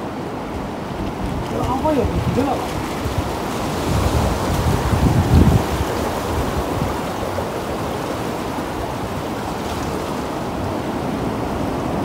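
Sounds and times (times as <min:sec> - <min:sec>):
sea waves washing against rocks: 0:00.0 - 0:12.0.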